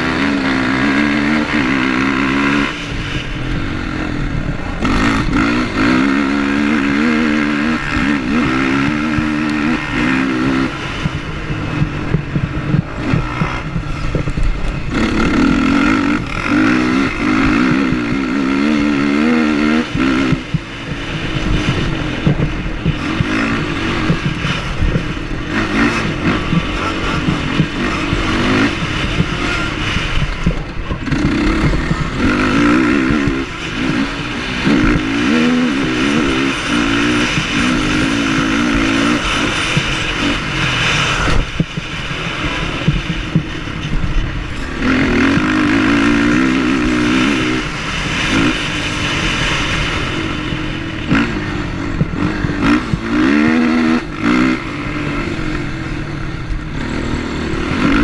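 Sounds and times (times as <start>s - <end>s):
quad engine revving: 0.0s - 58.0s
quad knocking over rough track: 0.0s - 58.0s
wind rush: 0.0s - 58.0s.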